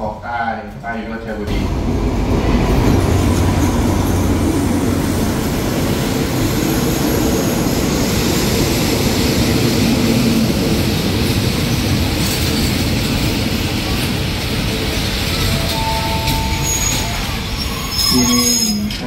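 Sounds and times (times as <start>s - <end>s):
diesel locomotive engine drone: 0.0s - 19.0s
train wheels rumbling on rail: 0.7s - 19.0s.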